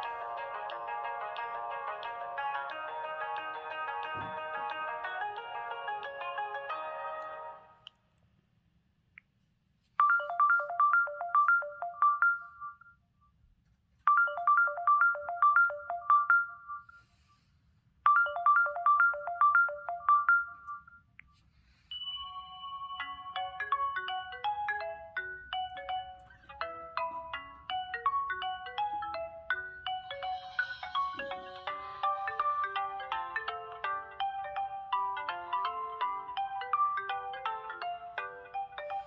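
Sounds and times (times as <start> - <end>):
fast phone ringtone tune: 0.0 - 7.6, 10.0 - 13.0, 14.1 - 17.1, 18.1 - 21.1, 21.9 - 39.0
phone ringtone melody: 0.0 - 7.8, 10.0 - 13.0, 14.1 - 17.2, 18.1 - 21.1, 21.7 - 39.0.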